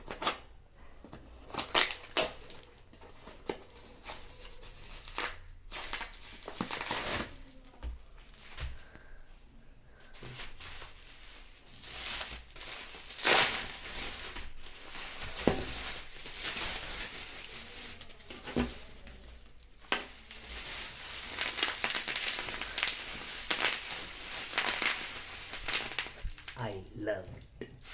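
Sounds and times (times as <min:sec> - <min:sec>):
packaging crinkling and rustling: 0:01.3 - 0:08.9, 0:10.0 - 0:26.7.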